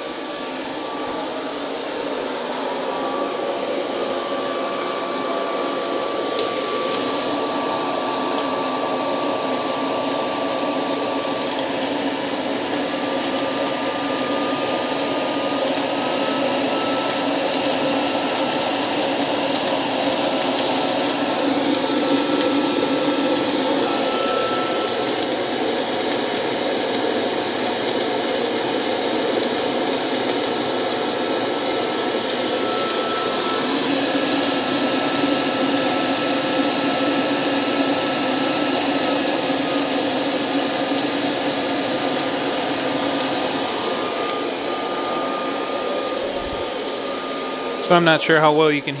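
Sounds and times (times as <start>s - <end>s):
hot-air blower running: 0.0s - 49.0s.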